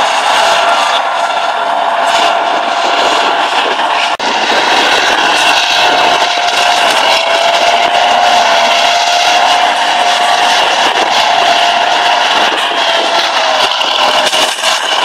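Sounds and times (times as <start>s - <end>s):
high steady whine: 0.0s - 15.0s
tank diesel engine: 0.0s - 15.0s
tank track noise: 0.0s - 15.0s.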